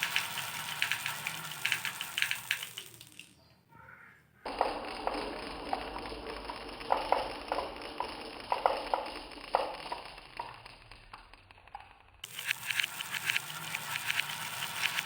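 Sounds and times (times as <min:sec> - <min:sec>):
marbles clicking on a track: 0:00.0 - 0:03.4, 0:04.5 - 0:15.0.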